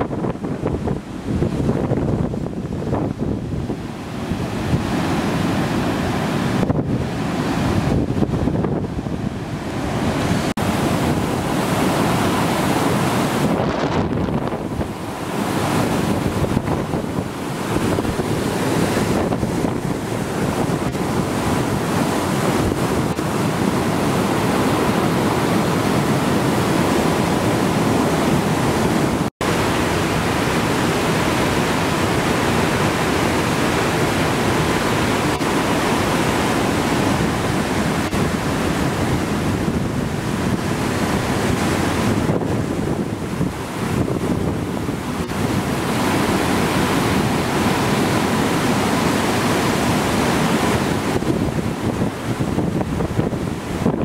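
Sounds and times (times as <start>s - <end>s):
floodwater rushing over weir: 0.0s - 54.0s.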